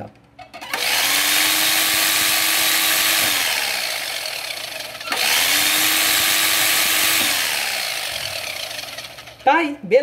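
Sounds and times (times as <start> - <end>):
food processor motor whirring: 0.6 - 9.5.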